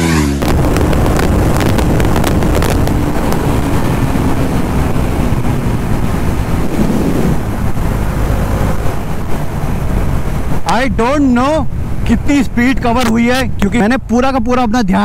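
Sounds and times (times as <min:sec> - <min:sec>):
motorcycle engine drone: 0:00.0 - 0:14.2
wind rushing over microphone: 0:00.4 - 0:14.7.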